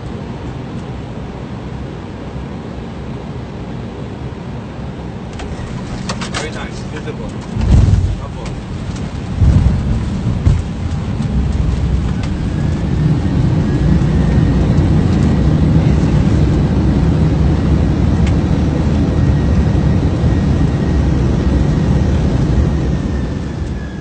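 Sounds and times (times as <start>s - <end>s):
aircraft engines and wheels rumbling: 0.0s - 24.0s.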